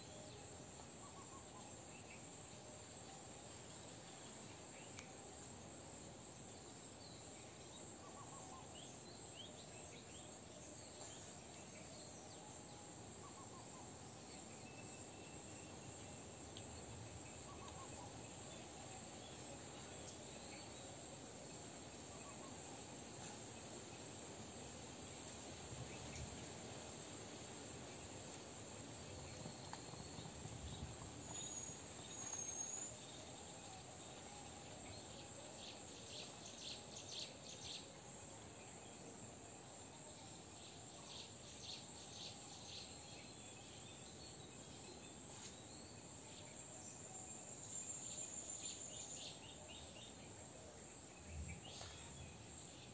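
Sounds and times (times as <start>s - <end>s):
crickets and insects trilling: 7.6s - 52.9s.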